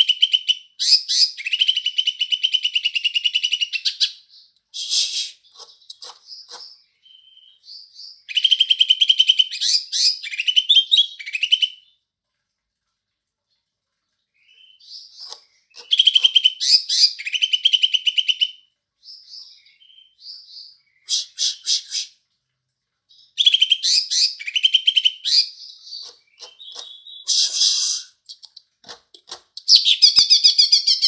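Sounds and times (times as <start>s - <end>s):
bird chattering song: 0.0s - 11.9s, 14.4s - 22.1s, 23.1s - 31.0s
bird chirps: 0.0s - 12.0s, 14.4s - 21.7s, 23.1s - 31.0s.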